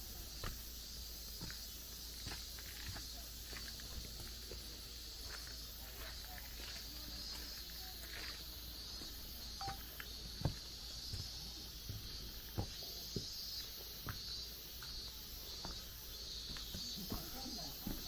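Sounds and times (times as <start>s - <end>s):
steady high hiss: 0.0s - 18.0s
footsteps on trail: 0.3s - 18.0s.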